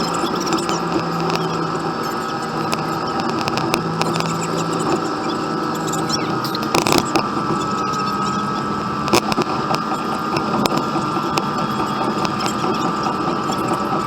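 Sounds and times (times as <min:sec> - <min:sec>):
constant whine: 0:00.0 - 0:14.0
sharp clicks and rattles: 0:00.0 - 0:14.0.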